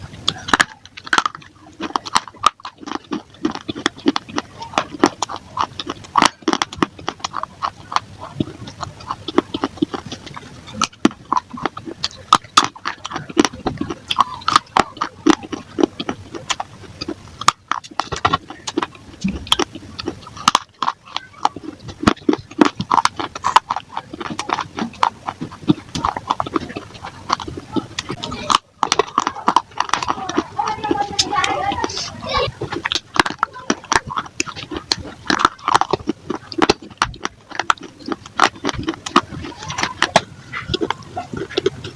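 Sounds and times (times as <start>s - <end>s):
crunchy chewing of clay: 0.0s - 41.9s.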